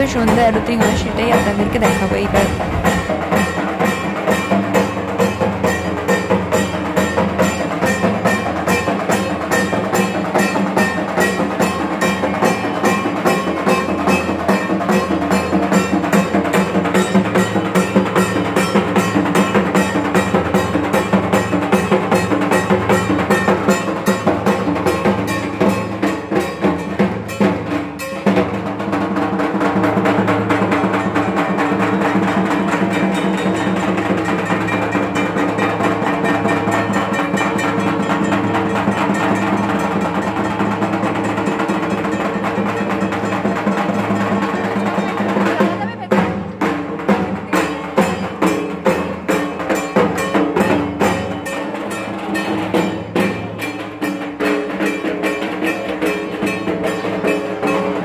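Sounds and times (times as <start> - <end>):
fast even drum beat: 0.0 - 58.0.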